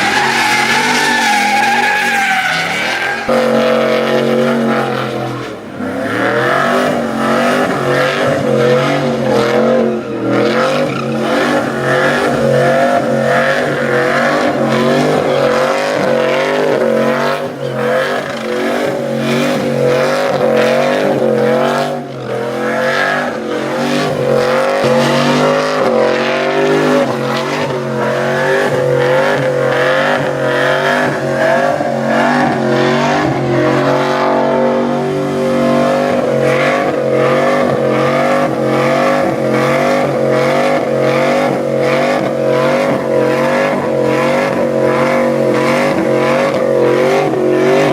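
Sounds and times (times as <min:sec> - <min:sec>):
truck engine revving: 0:00.0 - 0:47.9
tyres squealing: 0:00.0 - 0:47.9.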